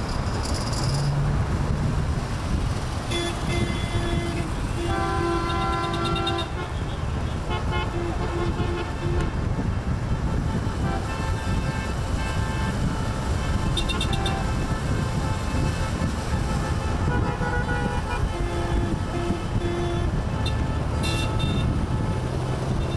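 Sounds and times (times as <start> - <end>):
car engines rumbling: 0.0 - 22.9
car horns honking: 3.0 - 9.4, 10.2 - 22.9.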